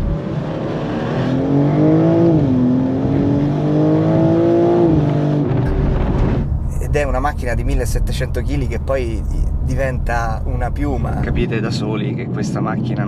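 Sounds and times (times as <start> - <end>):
car engine accelerating: 0.0 - 11.5.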